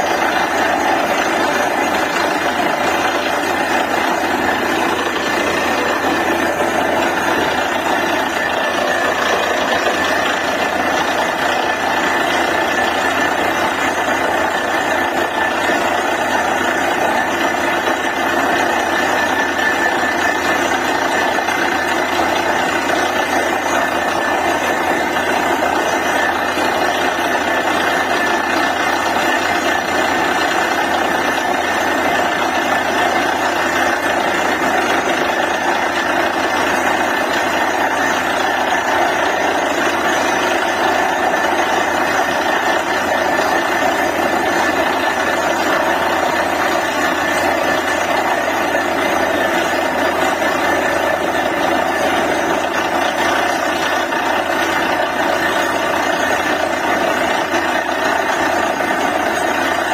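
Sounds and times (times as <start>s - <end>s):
drilling rig machine din: 0.0s - 59.9s.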